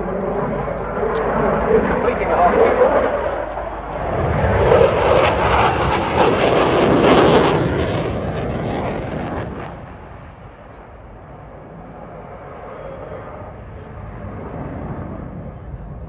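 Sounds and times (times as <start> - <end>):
fighter jet flying past: 0.0 - 16.0.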